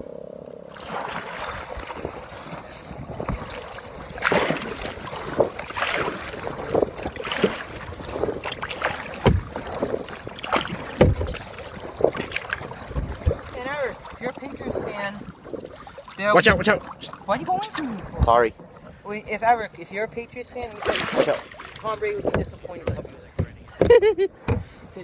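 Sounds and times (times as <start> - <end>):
kayak paddle splashing water: 0.7 - 25.0
wind buffeting microphone: 0.8 - 25.0.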